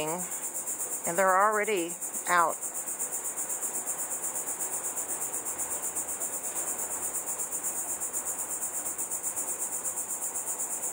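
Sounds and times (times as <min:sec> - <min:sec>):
cicadas buzzing: 0:00.0 - 0:10.9.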